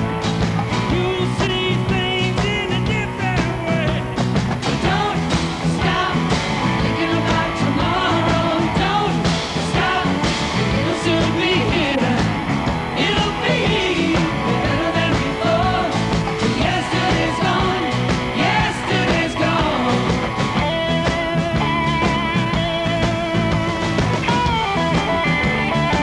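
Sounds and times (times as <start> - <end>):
rock song with singing: 0.0 - 26.0.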